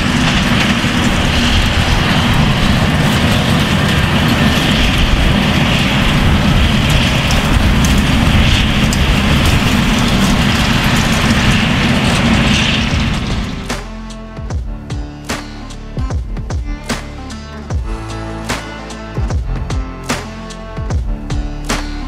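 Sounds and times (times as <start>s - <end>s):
forage harvester chopping grass: 0.0s - 22.0s
tractor with rotary rake passing: 0.0s - 22.0s
tractors working: 0.0s - 22.0s.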